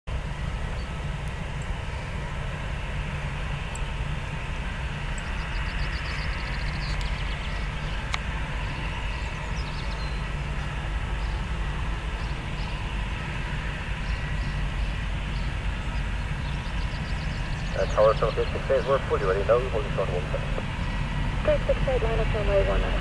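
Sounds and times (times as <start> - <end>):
low engine rumble: 0.1 - 23.0.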